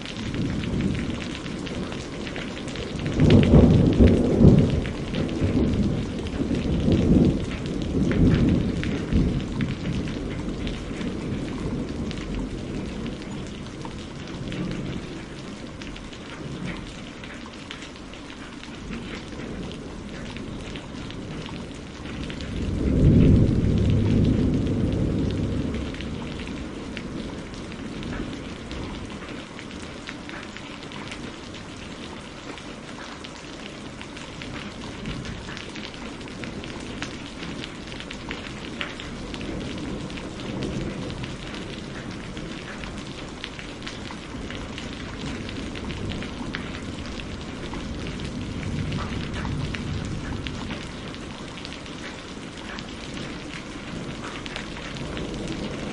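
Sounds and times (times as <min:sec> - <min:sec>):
thunder rumble: 0:00.0 - 0:17.4, 0:18.8 - 0:29.6, 0:33.8 - 0:55.9
steady rain falling: 0:00.0 - 0:55.9.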